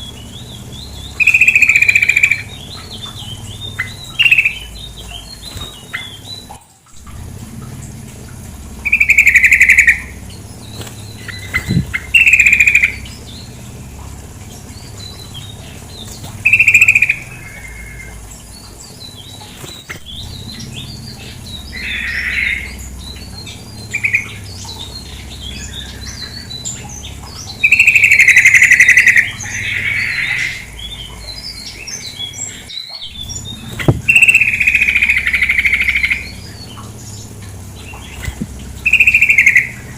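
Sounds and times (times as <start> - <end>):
bulbul calling: 0.0 - 39.9
quiet bird chirps: 0.0 - 39.9
running water: 0.0 - 39.9.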